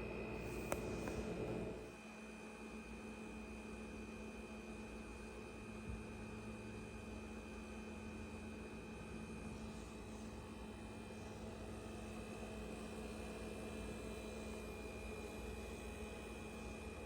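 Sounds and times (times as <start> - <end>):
refrigerator humming with high whine: 0.0 - 17.0.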